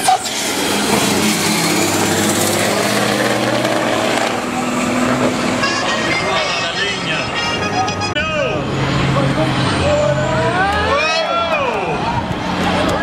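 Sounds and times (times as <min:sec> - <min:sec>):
diesel truck engine accelerating: 0:00.0 - 0:13.0.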